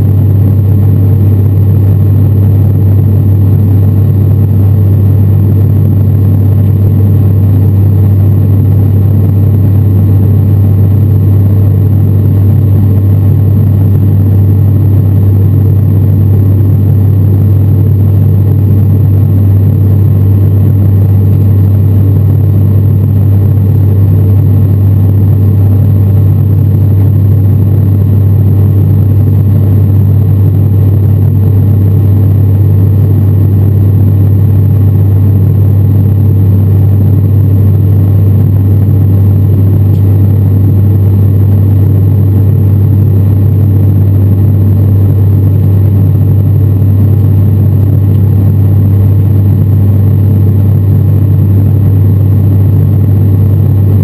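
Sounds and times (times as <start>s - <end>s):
turboprop engine drone: 0.0s - 54.0s.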